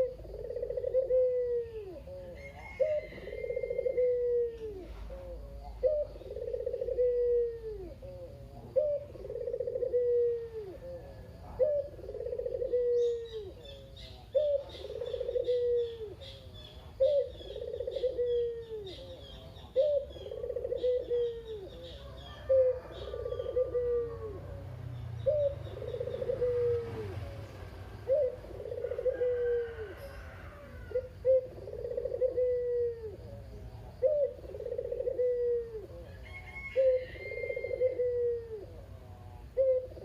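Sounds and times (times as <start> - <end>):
dove cooing: 0.0 - 40.0
small birds chirping faintly: 0.0 - 40.0.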